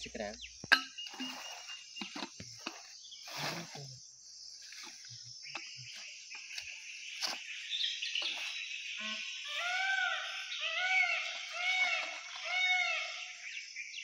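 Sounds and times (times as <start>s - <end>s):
insect chorus: 0.0s - 14.0s.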